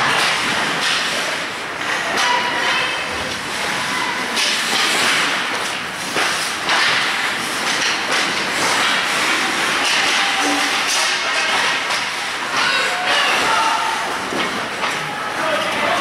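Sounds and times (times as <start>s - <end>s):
hockey sticks and puck knocking: 0.0s - 2.9s, 4.3s - 16.0s.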